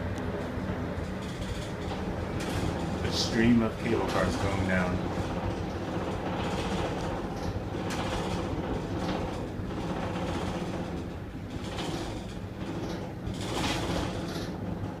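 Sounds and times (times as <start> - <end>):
gondola cabin rumble and rattle: 0.0 - 15.0
wind buffeting cabin: 0.0 - 15.0.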